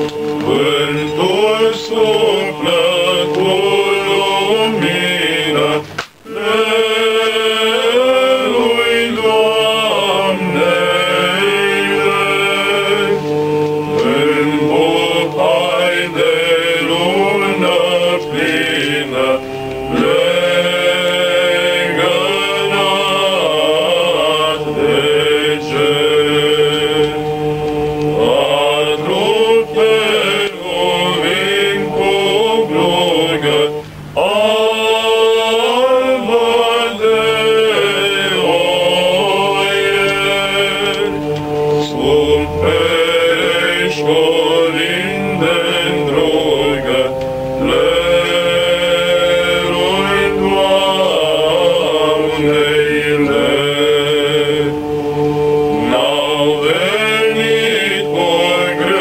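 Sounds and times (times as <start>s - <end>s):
male choir singing a cappella: 0.0s - 59.0s.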